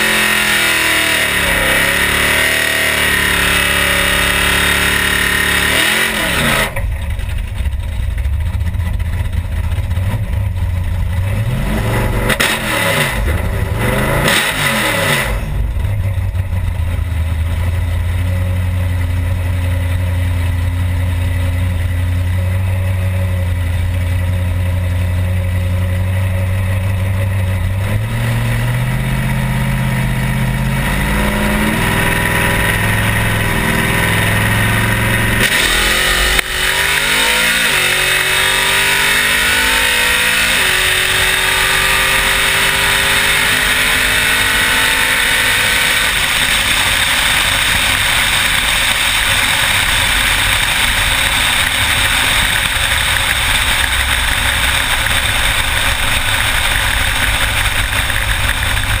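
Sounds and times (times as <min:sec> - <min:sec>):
drag car engine idling and revving: 0:00.0 - 0:59.0.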